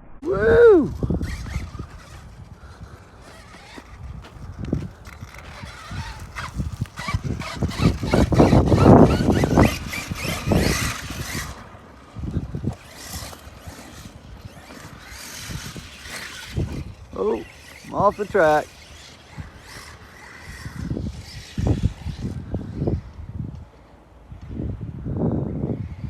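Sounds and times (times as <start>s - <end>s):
rc truck motor whine: 0.4s - 26.0s
tyres scrabbling on dirt: 0.9s - 23.2s.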